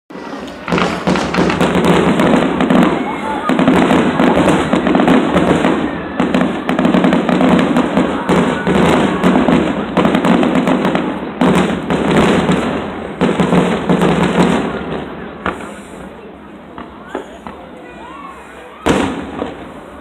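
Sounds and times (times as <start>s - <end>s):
fireworks bursting: 0.1s - 20.0s.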